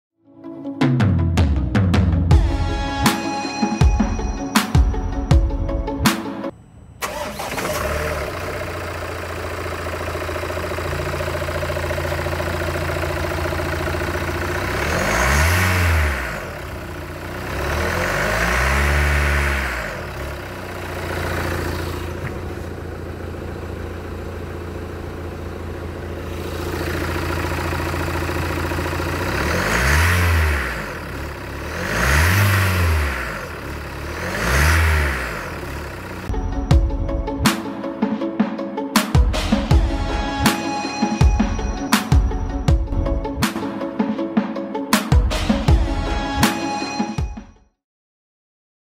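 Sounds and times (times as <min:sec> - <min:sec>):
diesel engine idling and revving: 0:01.2 - 0:38.0, 0:39.1 - 0:44.0.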